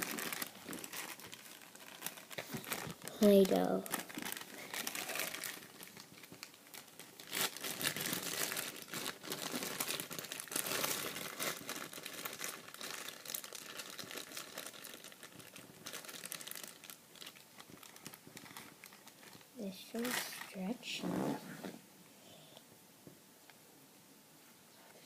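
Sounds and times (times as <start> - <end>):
slime crackling and squishing: 0.0 - 21.4.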